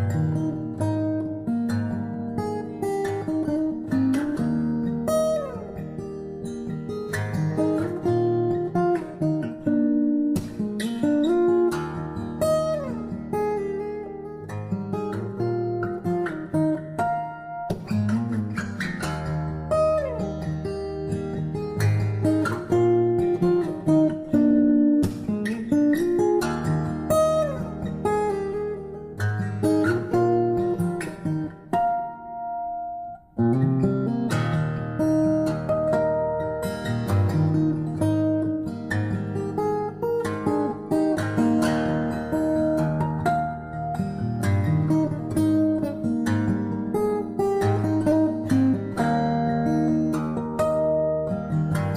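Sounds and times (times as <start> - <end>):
acoustic guitar picked and strummed: 0.0 - 51.9.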